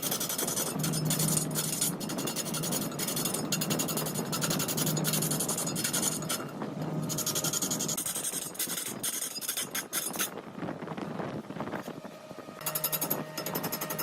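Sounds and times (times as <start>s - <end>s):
lathe tool rasping on wood: 0.0s - 10.3s, 12.6s - 14.0s
low machine hum: 0.0s - 14.0s.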